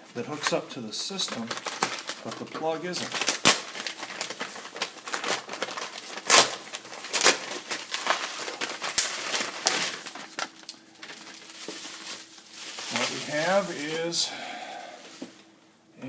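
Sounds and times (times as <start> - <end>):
packing bag rustling and crinkling: 0.3 - 15.5.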